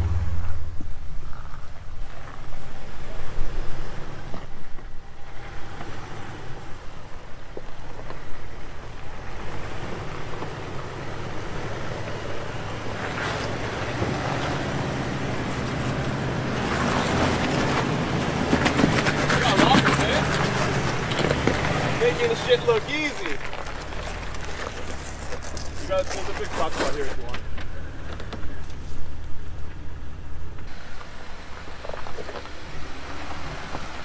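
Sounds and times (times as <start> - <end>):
vehicle engine running: 0.0 - 34.0
tyres crunching over rock and gravel: 0.1 - 34.0.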